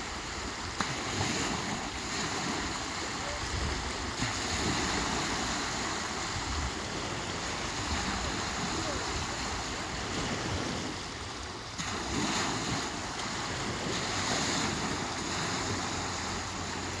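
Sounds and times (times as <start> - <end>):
waves washing up a beach: 0.0 - 17.0.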